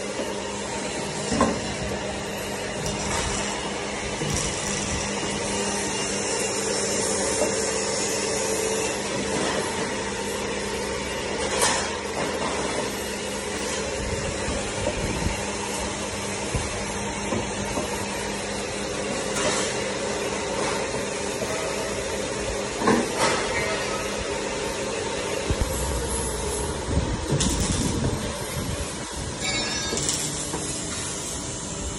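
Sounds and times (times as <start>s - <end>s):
welding machine hum and hiss: 0.0s - 31.9s.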